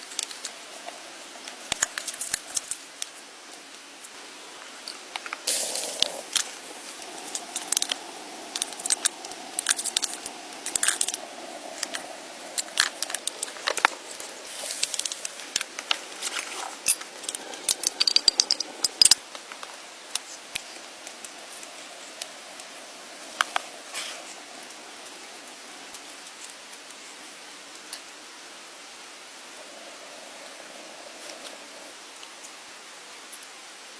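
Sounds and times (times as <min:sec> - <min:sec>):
crackling with sharp snaps: 0:00.0 - 0:28.2.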